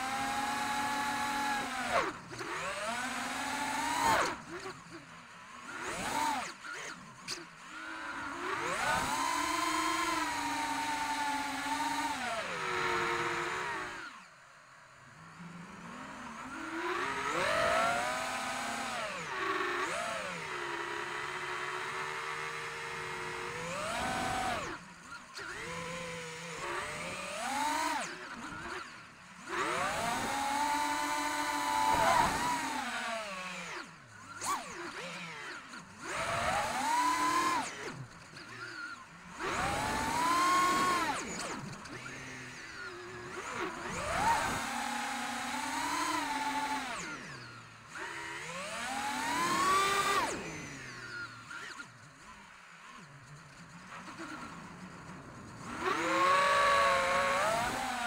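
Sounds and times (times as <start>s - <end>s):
drone motors whining: 0.0s - 58.0s.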